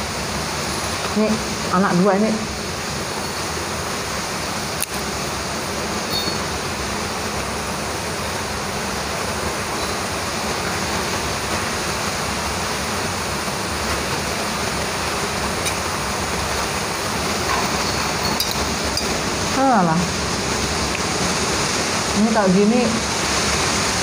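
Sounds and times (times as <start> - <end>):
heavy rain: 0.0 - 24.0.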